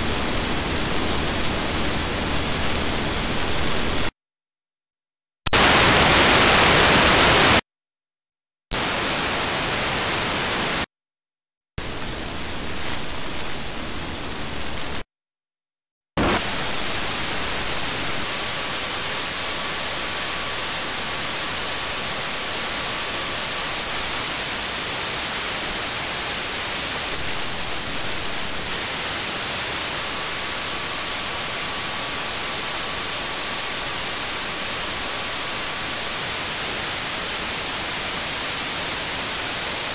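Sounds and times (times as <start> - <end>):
radio static hiss: 0.0 - 4.1, 5.5 - 7.6, 8.7 - 10.9, 11.8 - 15.1, 16.2 - 39.9.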